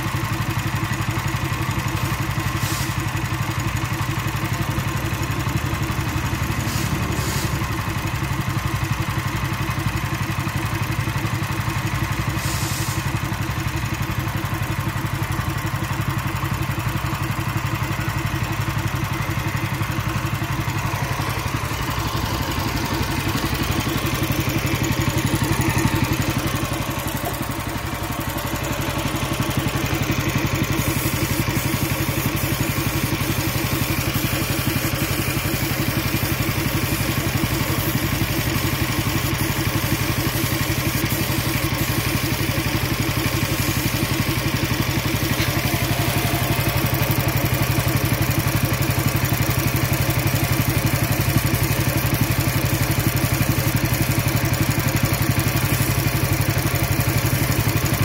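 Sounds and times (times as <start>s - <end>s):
air compressor engine chugging: 0.0s - 58.0s.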